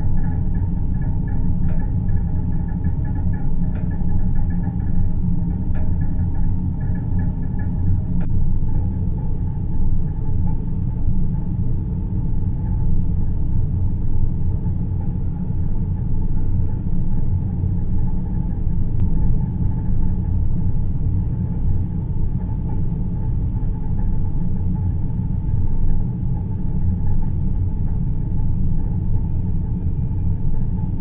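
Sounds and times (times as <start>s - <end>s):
deep low rumble: 0.0s - 31.0s
soft hum: 0.0s - 31.0s.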